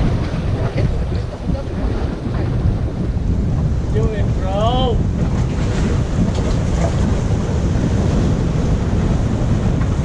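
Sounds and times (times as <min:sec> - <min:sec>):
waves splashing against rocks: 0:00.0 - 0:10.0
wind rumble on microphone: 0:00.0 - 0:10.0.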